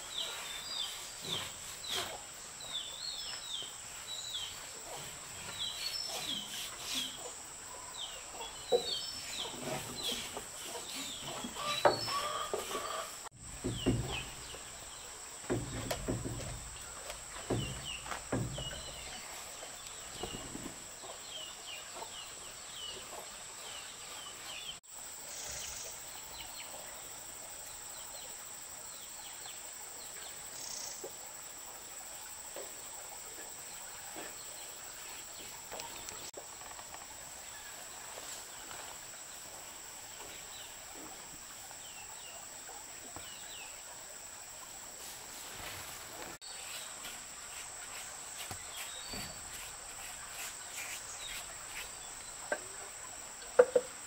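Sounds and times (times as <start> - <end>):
insects trilling: 0.0 - 23.2, 24.4 - 54.0.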